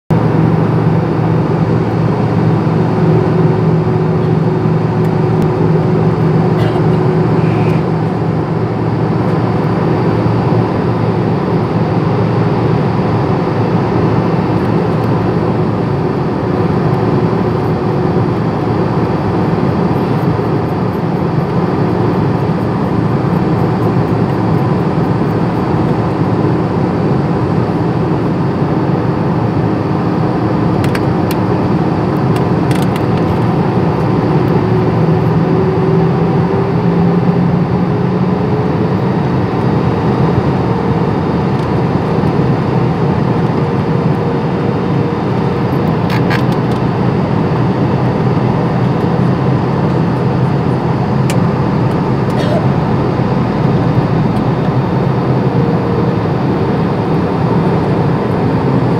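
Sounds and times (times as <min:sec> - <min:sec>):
airliner cabin engine noise: 0:00.1 - 0:58.9.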